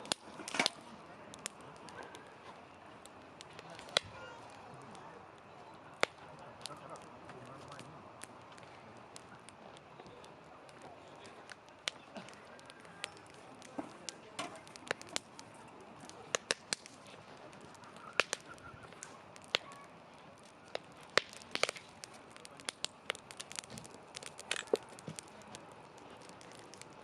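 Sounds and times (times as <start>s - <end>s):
faint steady hiss: 0.0s - 27.0s
wood fire crackling and popping: 0.0s - 27.0s.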